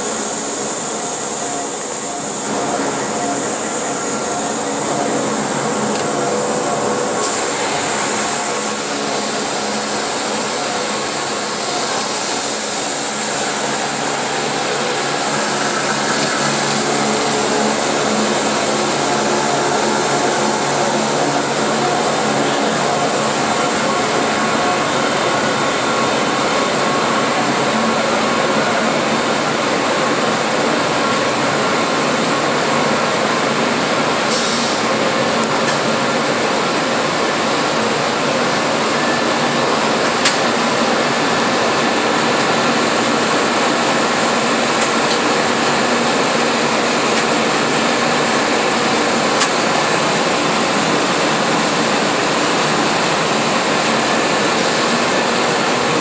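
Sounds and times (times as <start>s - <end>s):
machine hiss and hum: 0.0s - 56.0s.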